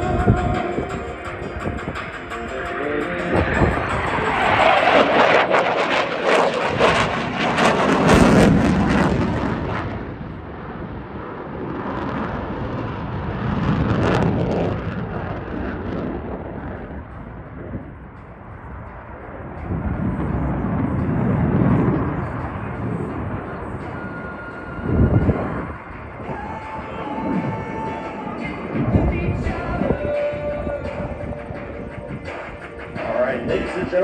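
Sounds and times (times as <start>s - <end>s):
fighter jet roaring: 0.0s - 34.0s.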